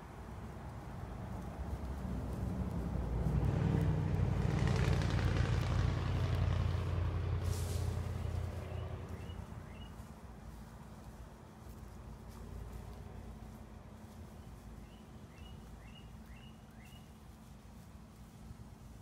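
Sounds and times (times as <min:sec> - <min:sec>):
engine passing by: 0:00.0 - 0:19.0.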